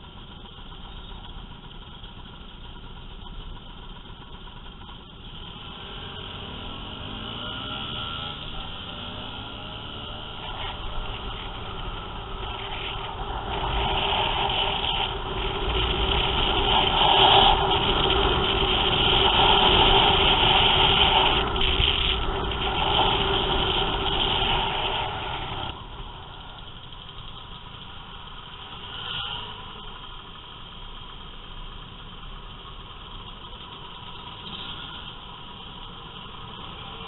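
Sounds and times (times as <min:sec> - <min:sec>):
motor scooter engine: 0:00.0 - 0:37.0
rushing road noise: 0:00.0 - 0:37.0.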